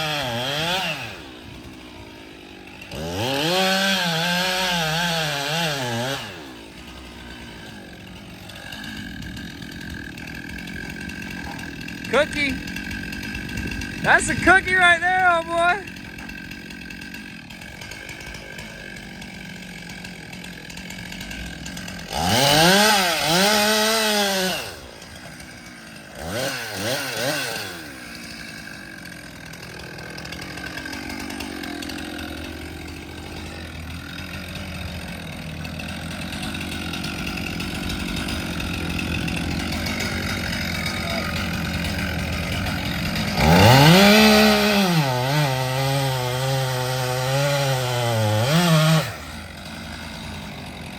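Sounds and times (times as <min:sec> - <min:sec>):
chainsaw idling and revving: 0:00.0 - 0:50.9.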